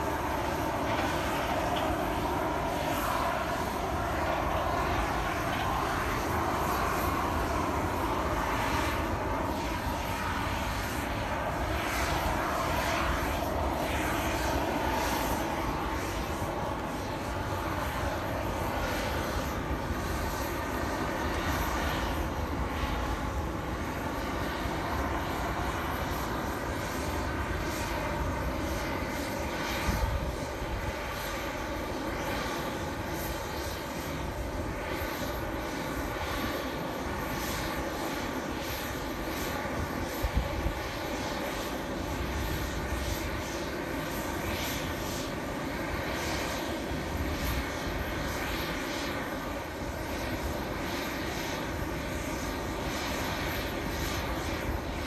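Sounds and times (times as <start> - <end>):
jet airliners droning: 0.0 - 55.0.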